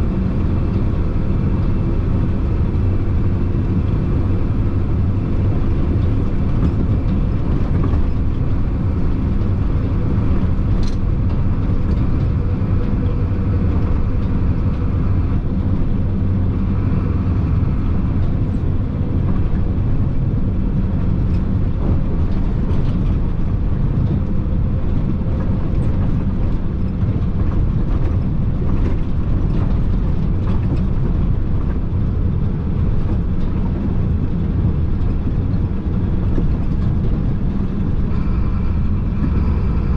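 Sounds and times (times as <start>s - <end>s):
diesel engine running: 0.0s - 39.9s
tyre and road rumble: 0.0s - 39.9s.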